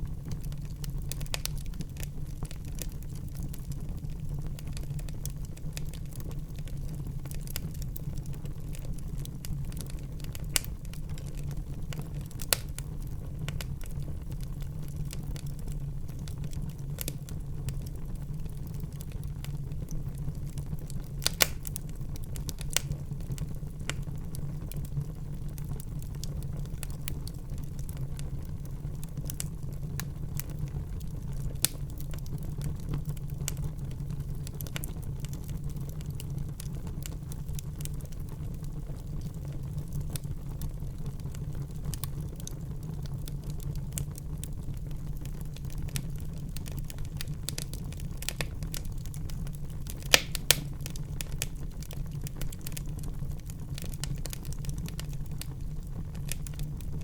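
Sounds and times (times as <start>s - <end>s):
fire popping and snapping: 0.0s - 57.0s
low rumble of flames: 0.0s - 57.0s.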